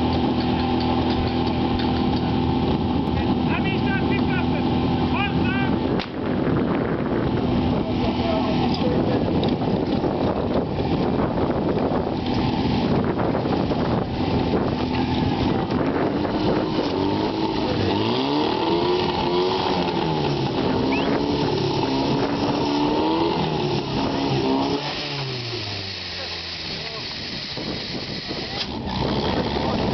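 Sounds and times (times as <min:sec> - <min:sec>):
pump engine revving: 0:00.0 - 0:29.9.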